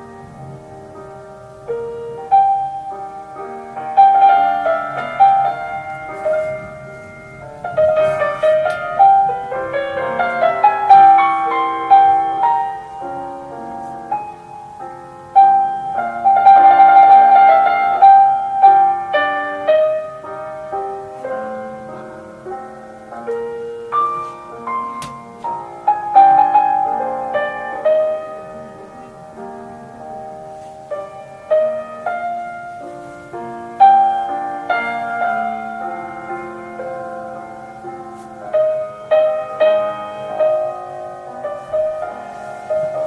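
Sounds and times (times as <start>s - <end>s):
classical piano music: 0.0s - 43.0s.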